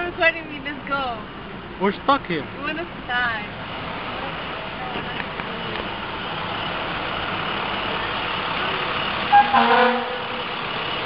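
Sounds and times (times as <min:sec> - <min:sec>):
truck engines idling: 0:00.0 - 0:11.0.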